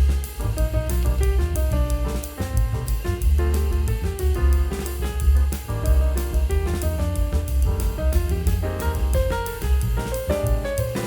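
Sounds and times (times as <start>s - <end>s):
music with drum kit and bass: 0.0s - 11.0s.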